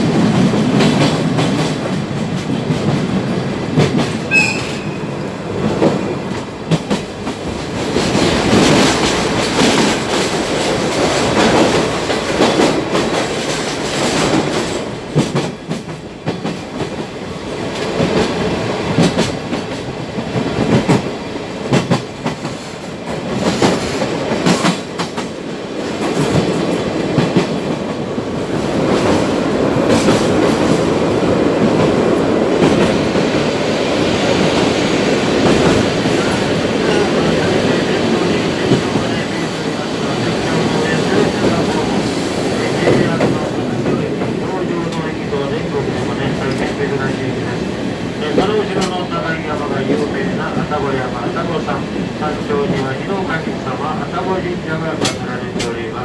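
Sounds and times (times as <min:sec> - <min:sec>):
wheels clacking over rail joints: 0:00.0 - 0:49.1
train wheels rumbling on rail: 0:00.0 - 0:56.0.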